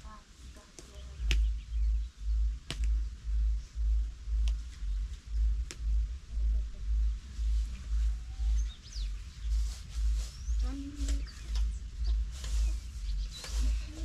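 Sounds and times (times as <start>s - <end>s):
low dull thumps: 0.6s - 14.0s.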